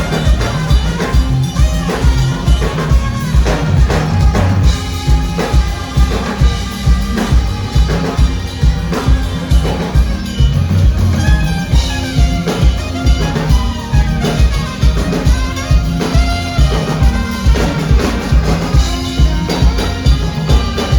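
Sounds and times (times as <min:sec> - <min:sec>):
bass guitar: 0:00.0 - 0:20.9
drum kit beat: 0:00.0 - 0:20.9
guitars playing: 0:00.0 - 0:20.9.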